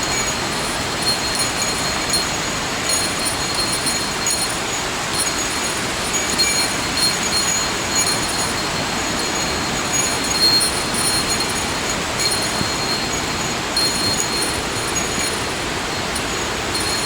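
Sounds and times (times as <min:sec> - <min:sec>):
thin high tones: 0:00.0 - 0:17.0.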